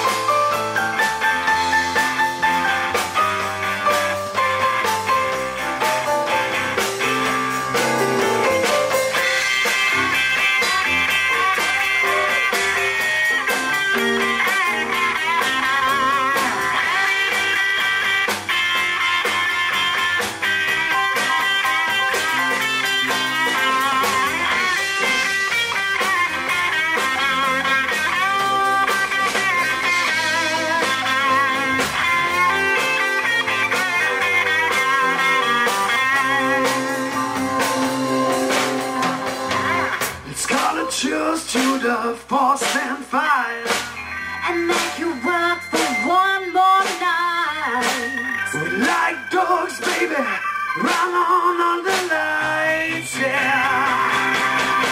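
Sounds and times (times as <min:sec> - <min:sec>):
electric guitar solo: 0:00.0 - 0:40.4, 0:43.6 - 0:51.6, 0:52.2 - 0:54.9
live blues-rock band: 0:00.0 - 0:54.9.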